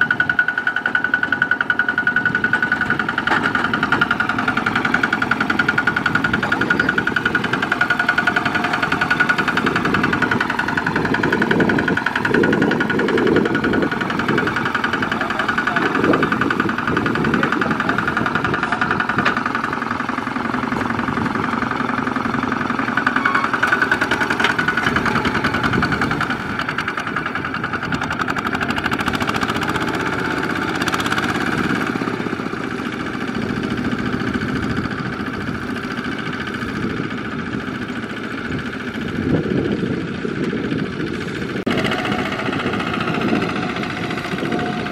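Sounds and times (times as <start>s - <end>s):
walking tractor diesel engine: 0.0s - 44.9s.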